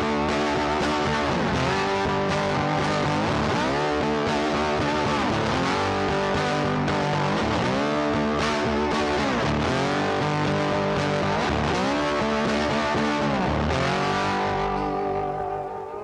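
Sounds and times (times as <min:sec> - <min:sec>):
guitar music with bending notes: 0:00.0 - 0:16.0.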